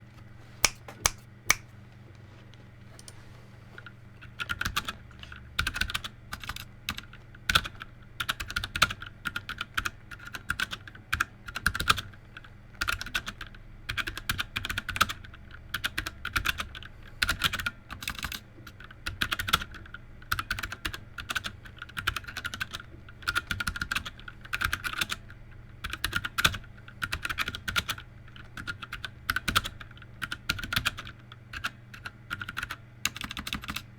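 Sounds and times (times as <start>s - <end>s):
typing on mechanical keyboard: 4.2s - 5.0s, 5.6s - 33.9s.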